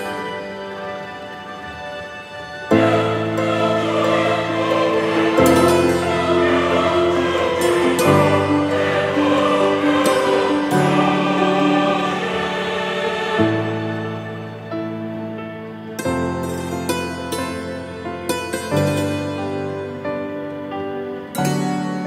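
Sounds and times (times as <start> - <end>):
slow held chords: 0.0 - 22.0.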